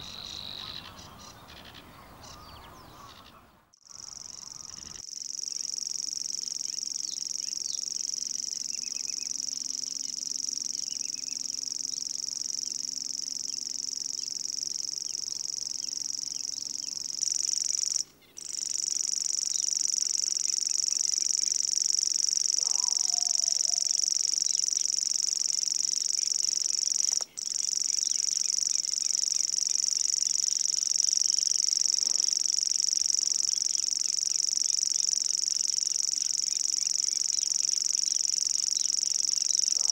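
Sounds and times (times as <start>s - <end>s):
bird reeling buzzing trill: 0.0s - 3.2s, 3.8s - 39.9s.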